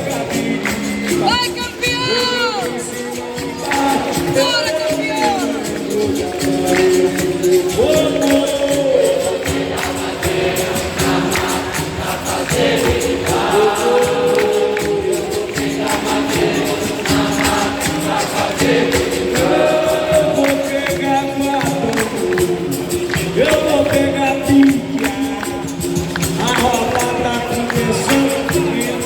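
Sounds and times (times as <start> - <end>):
group call-and-response singing: 0.0 - 29.0
pandeiro: 0.0 - 29.0.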